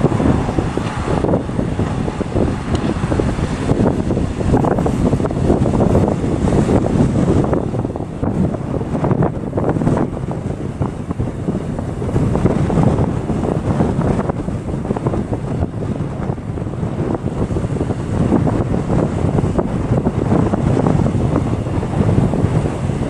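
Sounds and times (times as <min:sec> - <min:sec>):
waves washing: 0:00.0 - 0:23.0
wind buffeting microphone: 0:00.0 - 0:23.0.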